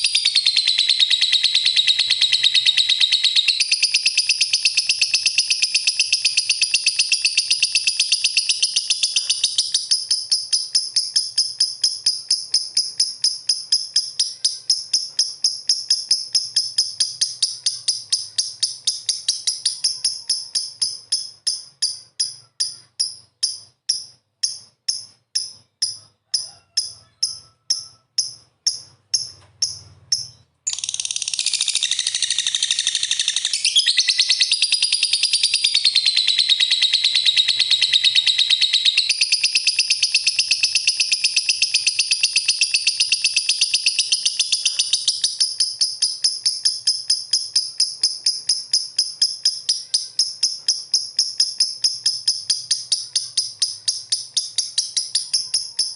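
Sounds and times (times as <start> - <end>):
lovebird chattering and chirping: 0.0 - 55.9.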